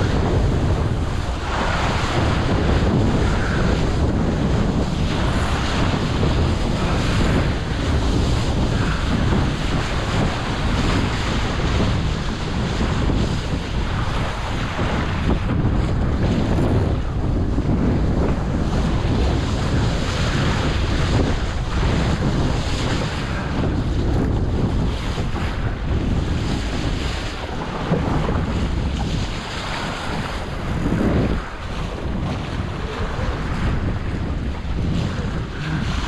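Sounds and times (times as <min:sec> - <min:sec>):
water splashing past hull: 0:00.0 - 0:36.0
wind buffeting microphone: 0:00.0 - 0:36.0.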